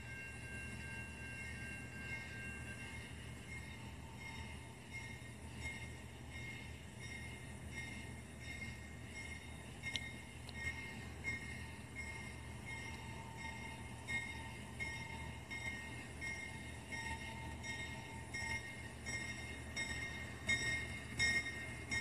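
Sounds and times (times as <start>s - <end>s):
crossing bell dinging: 0.0s - 22.0s
train rumble: 0.0s - 22.0s.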